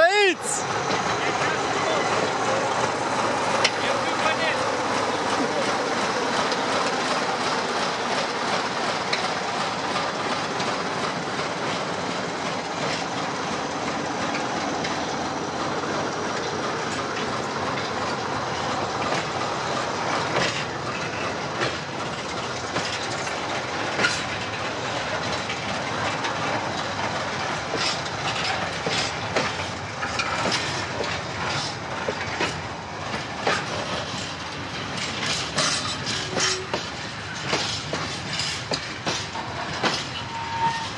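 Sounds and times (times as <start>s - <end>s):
diesel locomotive engine: 0.0s - 40.9s
train wheels rumbling on rails: 0.0s - 40.9s
wheels clacking over rail joints: 0.6s - 40.9s.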